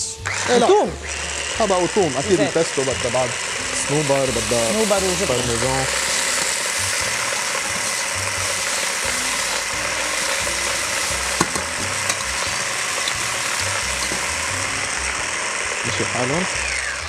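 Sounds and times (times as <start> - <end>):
food sizzling in a saucepan: 0.2 - 17.0.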